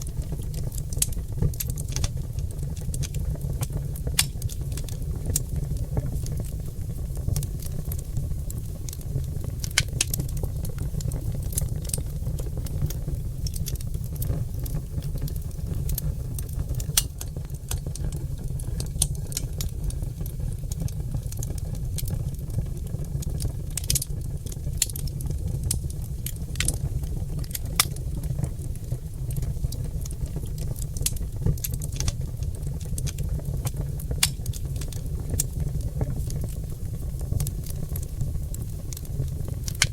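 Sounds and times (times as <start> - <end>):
log fire crackling and popping: 0.0 - 39.9
low rumble of flames: 0.0 - 39.9.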